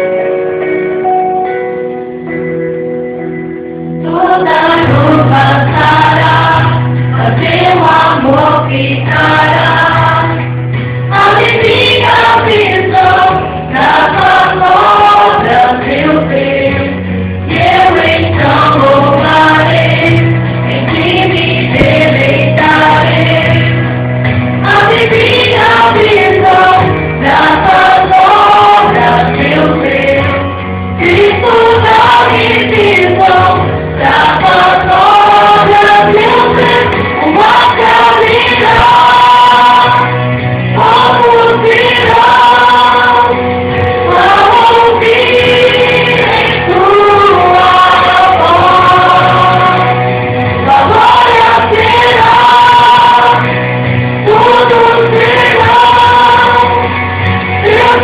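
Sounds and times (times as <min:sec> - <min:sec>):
gospel choir singing: 0:04.0 - 0:58.0.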